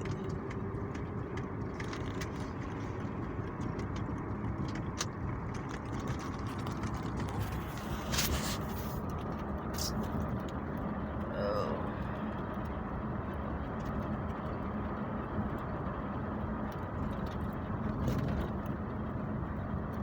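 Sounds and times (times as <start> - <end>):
road and engine noise in car: 0.0 - 20.0.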